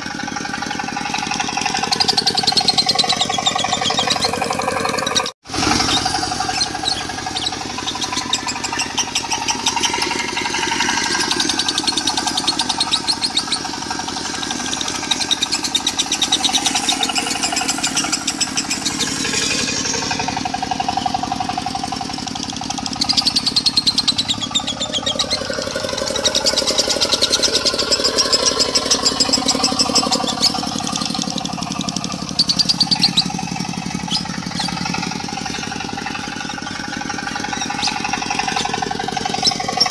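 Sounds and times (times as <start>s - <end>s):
bird chattering trills: 0.0s - 39.9s
diesel engine running: 0.0s - 39.9s.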